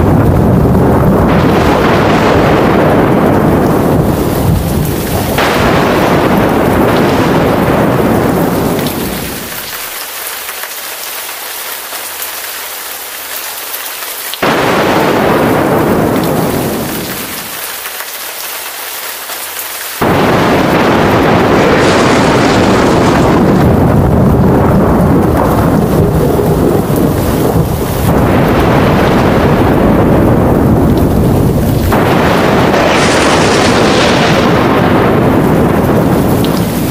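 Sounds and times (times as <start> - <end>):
loud thunderclap: 0.0 - 9.9, 14.4 - 17.9, 20.0 - 36.9
thunder rumbling: 0.0 - 10.1, 14.4 - 18.0, 20.0 - 36.9
rain falling: 0.0 - 36.9.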